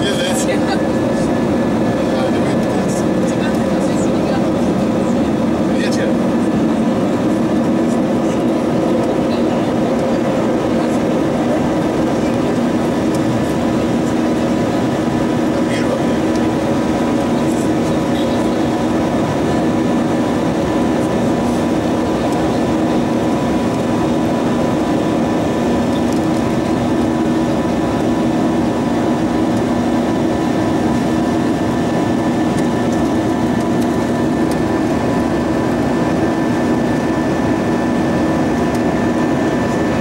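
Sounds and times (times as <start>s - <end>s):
airflow rushing in cabin: 0.0s - 40.0s
jet engines humming: 0.0s - 40.0s.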